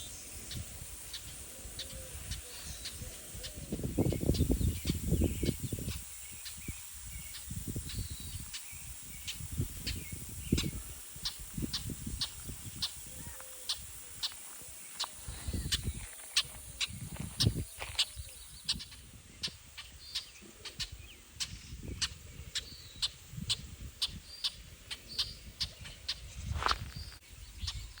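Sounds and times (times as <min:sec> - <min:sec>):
blackbird alarm calls: 0:00.0 - 0:28.0.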